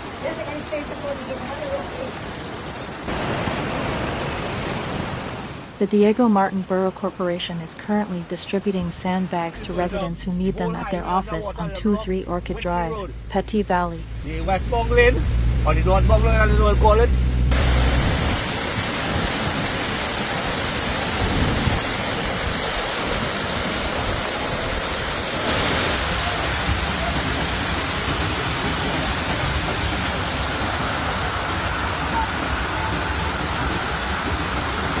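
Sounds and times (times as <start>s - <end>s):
heavy rain: 0.0s - 5.8s, 9.5s - 35.0s
rushing floodwater: 0.0s - 5.8s, 7.7s - 35.0s.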